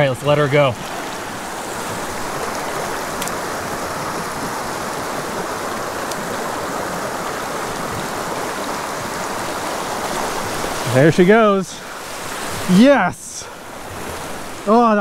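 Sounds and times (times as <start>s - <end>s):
water rushing over gravel: 0.0s - 15.0s.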